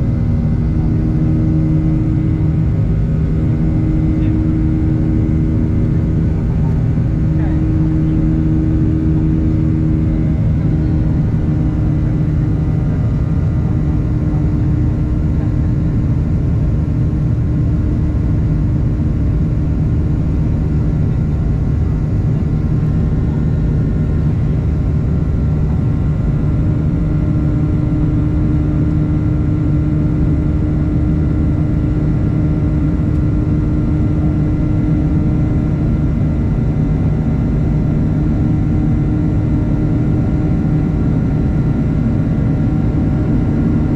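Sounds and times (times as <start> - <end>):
jet engine drone in cabin: 0.0 - 43.9
steady hum tones: 0.0 - 43.9.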